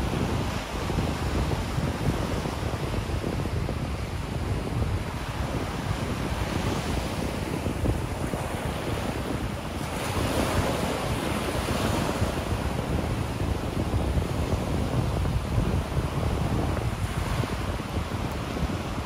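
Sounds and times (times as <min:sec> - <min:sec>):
ocean surf breaking on beach: 0:00.0 - 0:19.0
wind buffeting microphone: 0:00.0 - 0:19.0.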